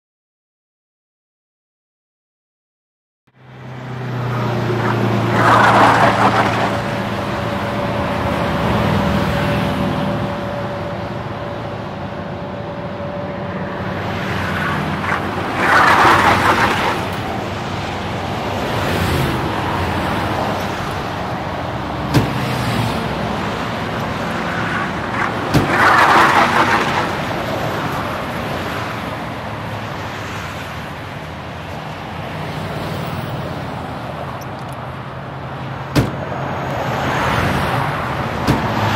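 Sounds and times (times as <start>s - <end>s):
road traffic hum: 3.3s - 38.9s
vehicles passing: 3.3s - 38.9s.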